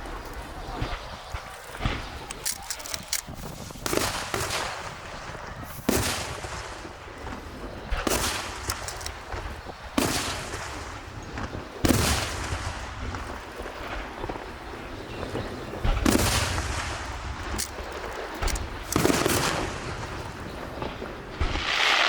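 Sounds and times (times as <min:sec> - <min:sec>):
fireworks bangs: 0:00.0 - 0:22.0
fireworks crackles: 0:00.0 - 0:22.0.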